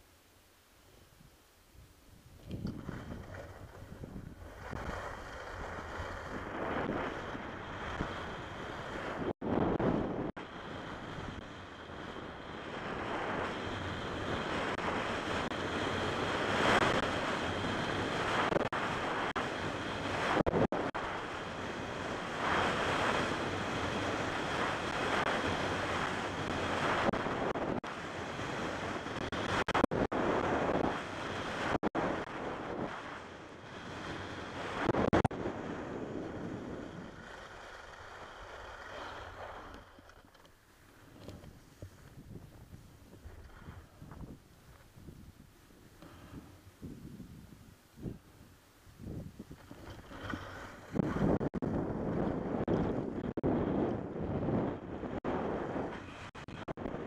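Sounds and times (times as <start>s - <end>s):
wind rushing over microphone: 1.1s - 40.3s, 41.0s - 57.0s
skis carving packed snow: 2.3s - 57.0s.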